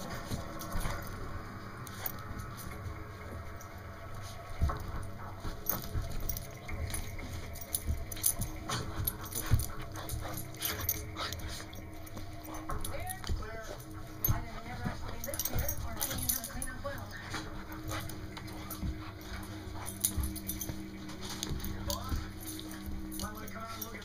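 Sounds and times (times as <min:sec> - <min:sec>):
dogs scuffling: 0:00.0 - 0:24.0
dog vocal noises: 0:03.5 - 0:24.0.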